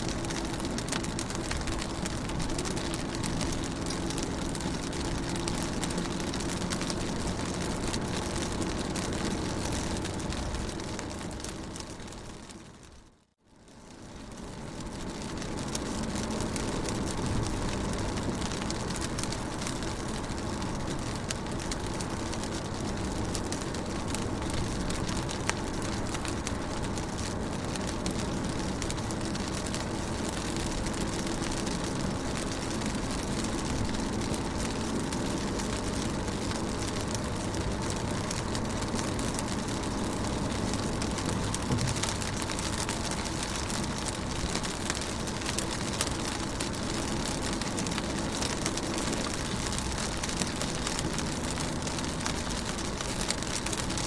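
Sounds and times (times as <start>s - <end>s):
rain on car window: 0.0s - 54.0s.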